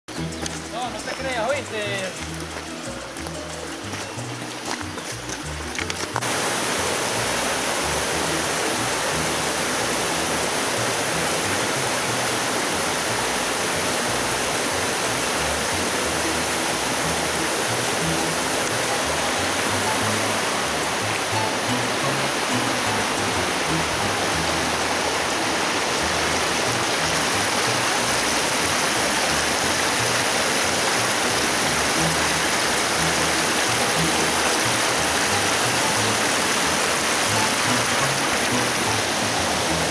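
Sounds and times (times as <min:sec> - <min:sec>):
creek running over rocks: 0:00.1 - 0:39.9
small waterfall rushing: 0:00.1 - 0:39.9.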